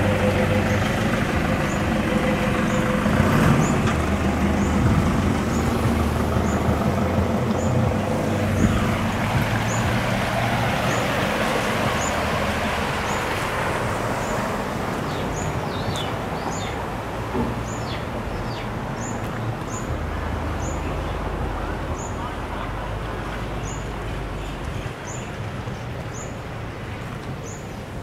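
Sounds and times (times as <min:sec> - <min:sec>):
truck driving through floodwater: 0:00.0 - 0:28.0.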